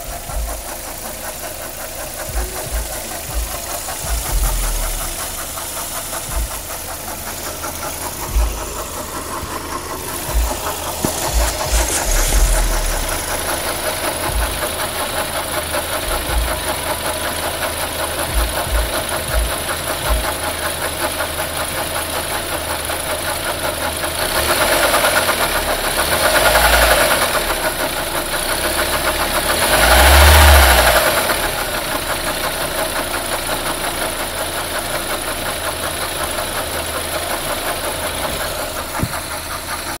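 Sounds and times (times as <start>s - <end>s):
car engine idling with knock: 0.0s - 40.0s
car engine revving: 0.0s - 40.0s.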